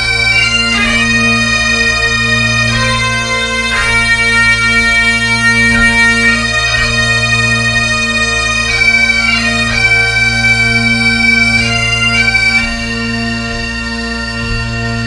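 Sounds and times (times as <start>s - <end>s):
bagpipe chanter melody: 0.0s - 15.0s
bagpipe drone: 0.0s - 15.0s.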